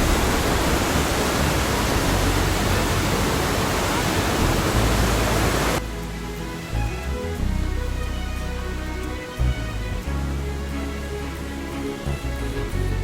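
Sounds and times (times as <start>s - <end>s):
background music: 0.0s - 13.0s
waterfall rushing: 0.0s - 13.0s.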